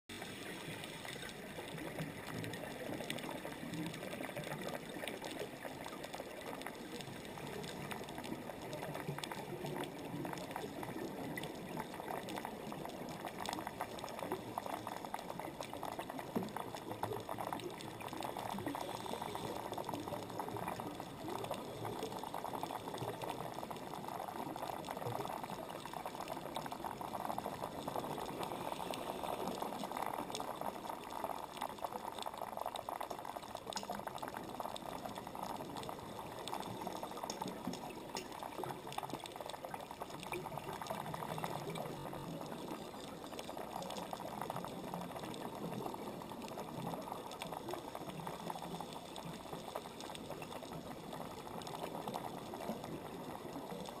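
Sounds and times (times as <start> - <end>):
faint clicks and crackles: 0.1 - 54.0
muffled underwater bubbling hiss: 0.1 - 54.0.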